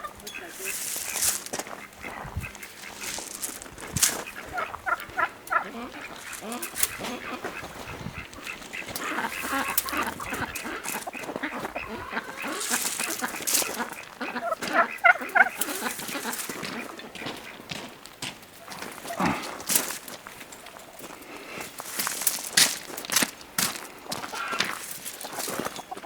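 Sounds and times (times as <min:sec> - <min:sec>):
poultry calling: 0:00.0 - 0:26.0.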